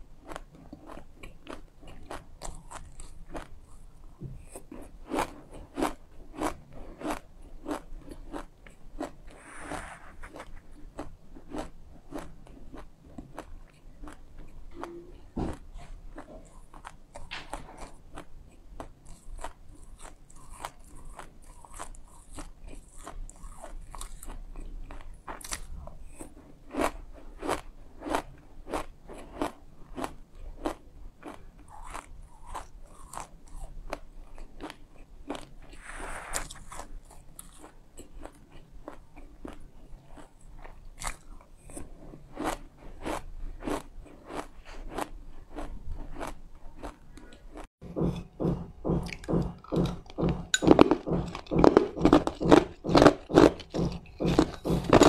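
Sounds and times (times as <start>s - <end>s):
chewing crunchy seeds: 0.1s - 47.7s, 49.0s - 55.0s.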